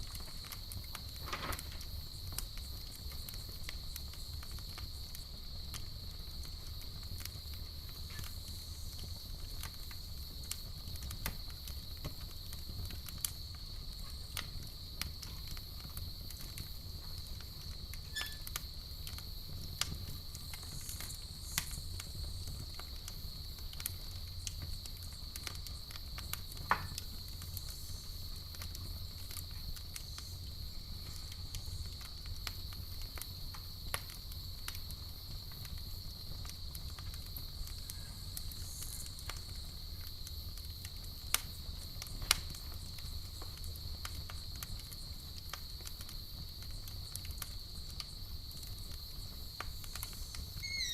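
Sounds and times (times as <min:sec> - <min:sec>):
campfire crackling and popping: 0:00.0 - 0:50.9
crickets chirping: 0:00.0 - 0:50.9.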